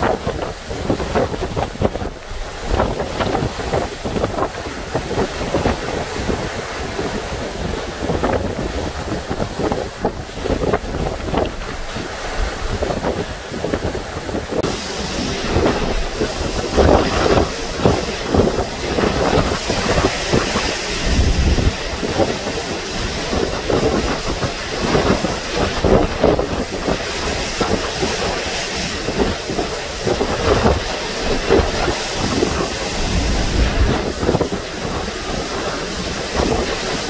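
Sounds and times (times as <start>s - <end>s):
driving rain: 0.0s - 37.0s
hurricane-force wind: 0.0s - 37.0s.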